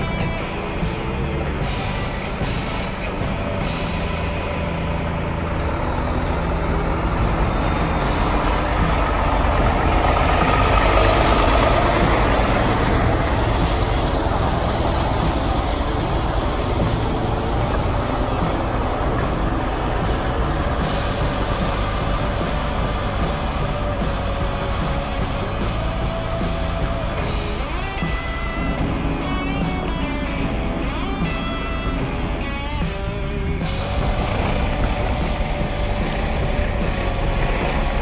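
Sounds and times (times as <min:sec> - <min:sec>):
truck diesel engine driving by: 0:00.0 - 0:38.0.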